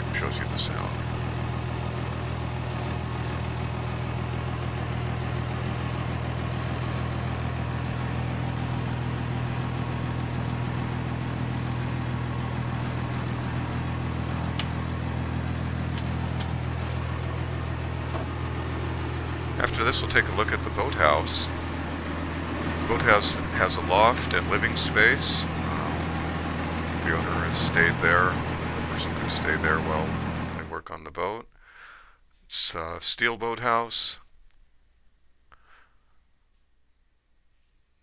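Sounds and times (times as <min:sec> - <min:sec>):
diesel engine idling: 0:00.0 - 0:30.8.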